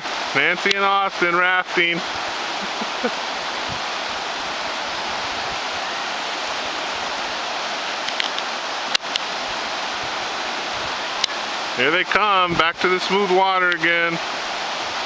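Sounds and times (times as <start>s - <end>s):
river rapids rushing over rocks: 0.0s - 15.0s.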